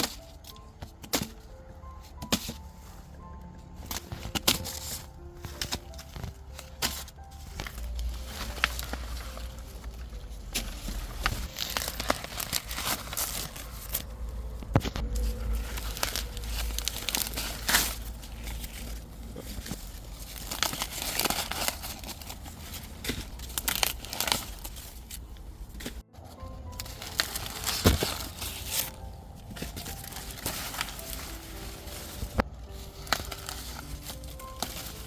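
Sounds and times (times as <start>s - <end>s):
dry corn plants rustling: 0.0s - 35.0s.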